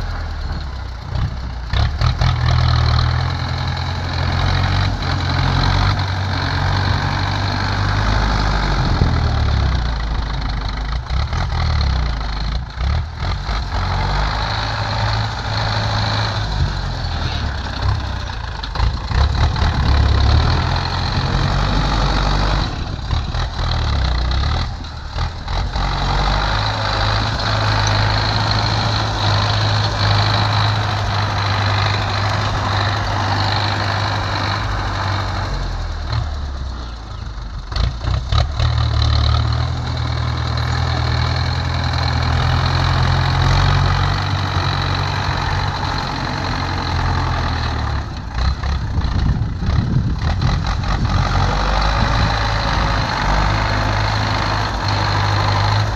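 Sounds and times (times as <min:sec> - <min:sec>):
heavy machinery diesel engines: 0:00.0 - 0:55.9.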